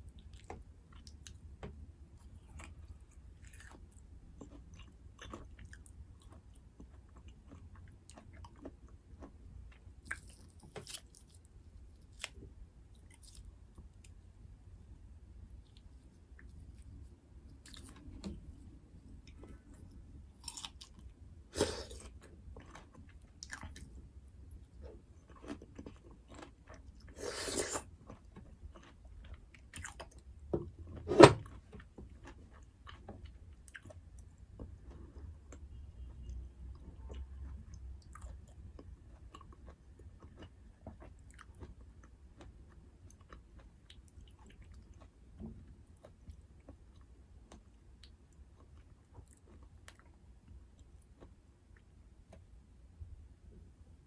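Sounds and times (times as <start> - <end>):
person chewing food: 2.2 - 14.3, 15.5 - 30.2, 30.9 - 52.4.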